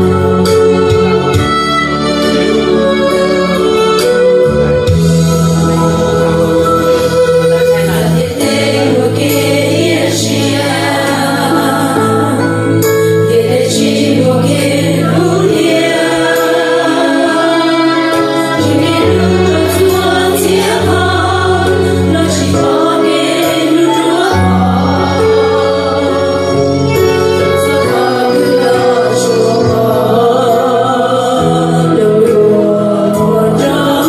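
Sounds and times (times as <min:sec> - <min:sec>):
instrumental backing: 0:00.0 - 0:34.0
choir singing: 0:05.6 - 0:34.0.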